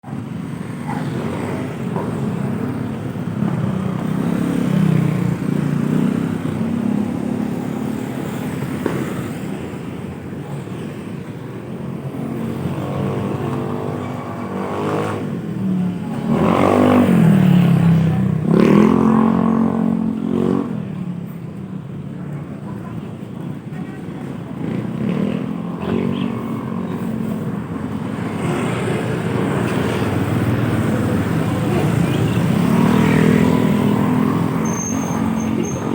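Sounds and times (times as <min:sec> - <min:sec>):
vehicle engines running: 0:00.0 - 0:35.9.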